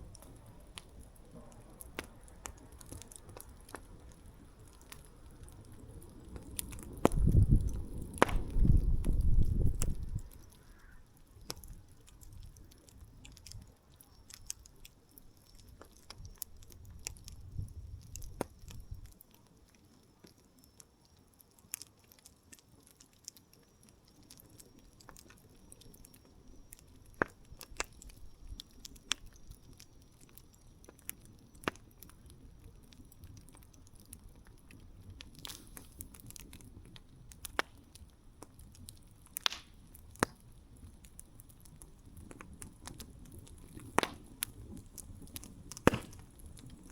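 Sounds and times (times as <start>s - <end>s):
campfire crackling and popping: 0.0s - 46.9s
soft steady hiss: 0.0s - 46.9s.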